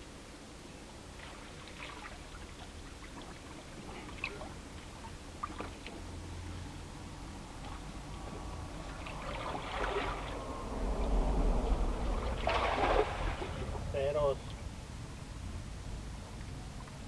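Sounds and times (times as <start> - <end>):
low steady rumble: 0.0 - 17.0
river water trickling: 0.0 - 17.0.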